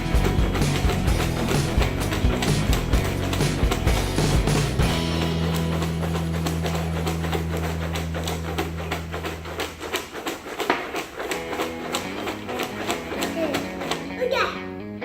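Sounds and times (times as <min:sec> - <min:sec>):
popcorn rattling in a container: 0:00.0 - 0:14.5.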